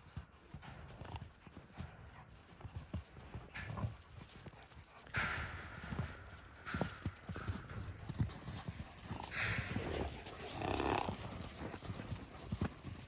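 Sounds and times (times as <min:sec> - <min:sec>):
hooves clopping on ground: 0:00.0 - 0:13.0.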